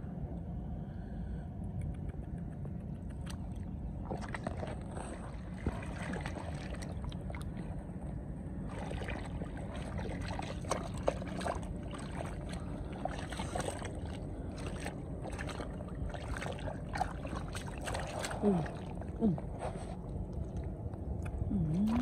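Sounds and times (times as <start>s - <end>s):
low rumble: 0.0s - 22.0s
hands sloshing through muddy water: 3.1s - 22.0s.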